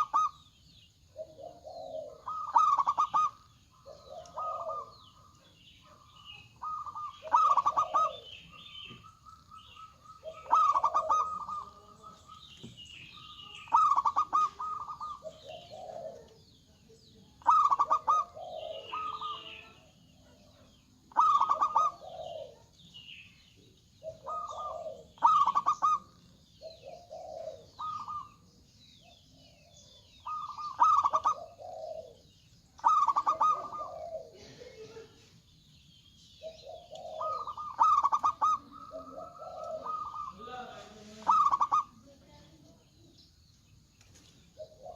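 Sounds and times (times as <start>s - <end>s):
doves cooing: 0.0s - 35.6s, 36.2s - 43.3s, 44.1s - 44.9s
higher bird chirping: 0.0s - 44.9s.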